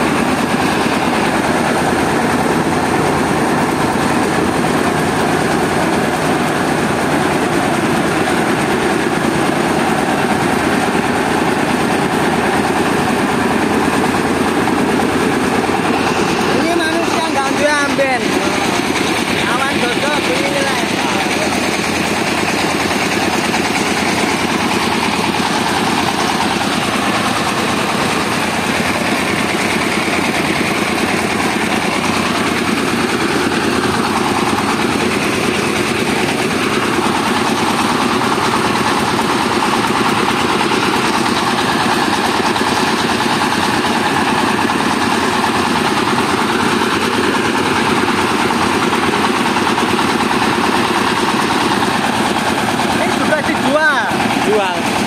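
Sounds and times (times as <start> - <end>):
rice mill engine running: 0.0 - 55.0.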